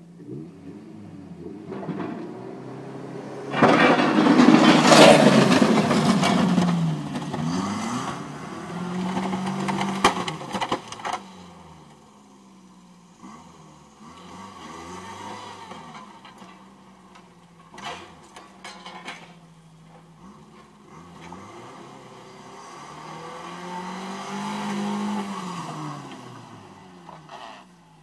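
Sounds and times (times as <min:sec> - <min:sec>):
truck engine revving: 0:00.0 - 0:18.6, 0:19.2 - 0:28.0.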